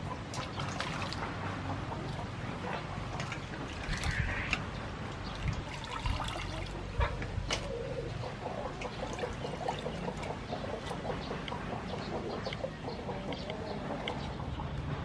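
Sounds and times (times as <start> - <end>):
water sloshing and trickling: 0.0 - 7.7, 8.3 - 14.6.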